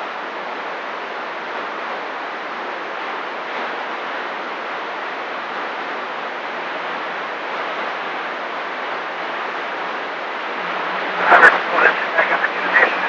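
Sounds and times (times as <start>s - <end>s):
radio static hiss: 1.1s - 13.0s.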